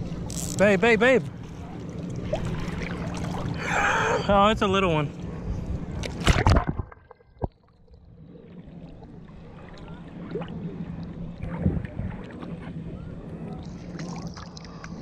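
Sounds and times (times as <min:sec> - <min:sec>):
surf water splashing: 0:00.6 - 0:15.0.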